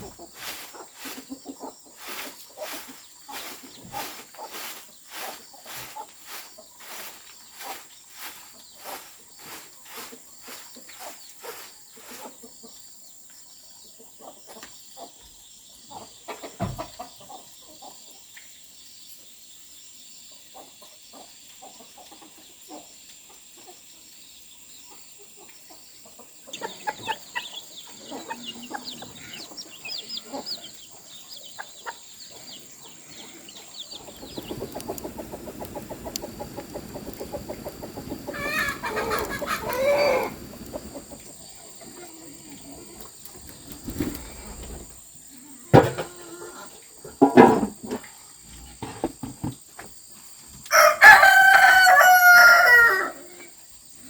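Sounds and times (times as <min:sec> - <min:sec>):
chickens clucking: 0:00.0 - 0:18.6, 0:20.3 - 0:48.1.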